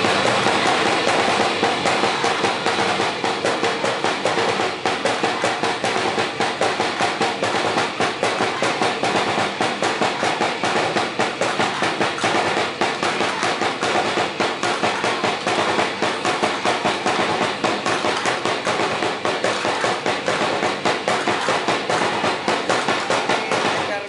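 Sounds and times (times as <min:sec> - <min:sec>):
fast rhythmic percussion: 0:00.0 - 0:24.0.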